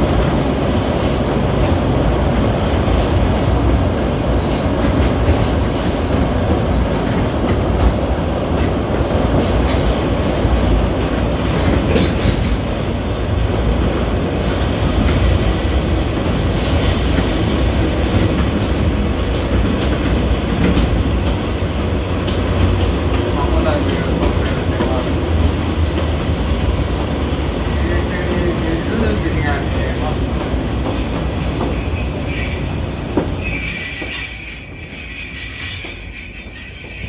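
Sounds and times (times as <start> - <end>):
rail clacks: 0.0 - 37.0
train wheels rumbling on rail: 0.0 - 37.0.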